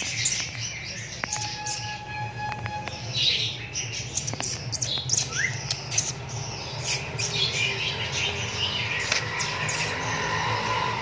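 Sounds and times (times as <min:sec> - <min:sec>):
birds squawking and chirping: 0:00.0 - 0:11.0.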